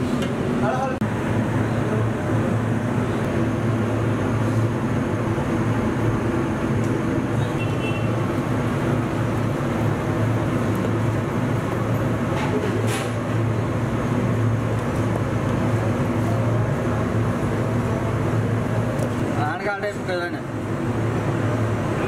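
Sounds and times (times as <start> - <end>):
kitchen equipment hum and rumble: 0.0 - 22.0.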